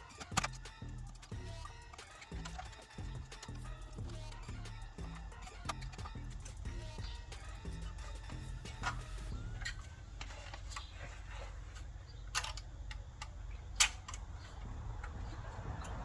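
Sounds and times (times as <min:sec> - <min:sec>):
plastic connectors clicking and rattling: 0:00.0 - 0:11.0, 0:11.8 - 0:16.0.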